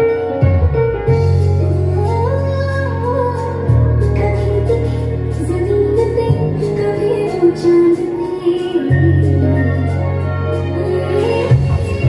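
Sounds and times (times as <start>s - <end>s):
steady bass: 0.0s - 12.0s
woman singing: 1.1s - 12.0s.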